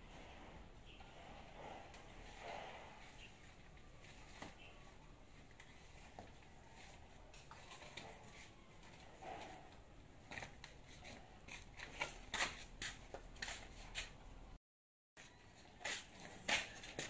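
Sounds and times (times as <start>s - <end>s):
footsteps: 1.2s - 14.3s, 15.2s - 17.0s.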